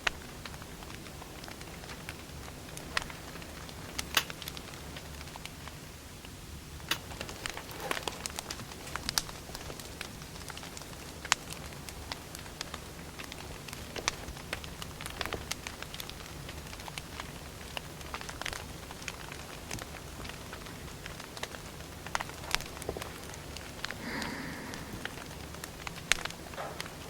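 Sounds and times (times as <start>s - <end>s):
firewood crackling and popping: 0.0s - 27.0s.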